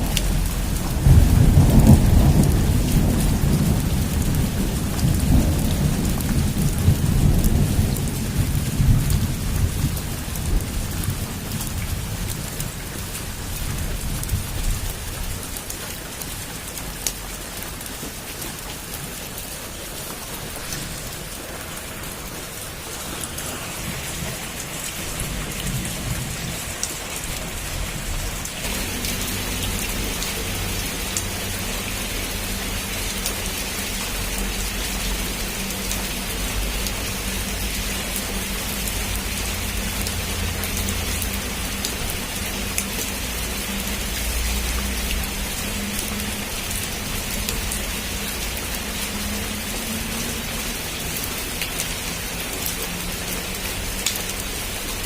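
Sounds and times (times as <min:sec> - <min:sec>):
heavy rain on a rooftop: 0:00.0 - 0:55.0.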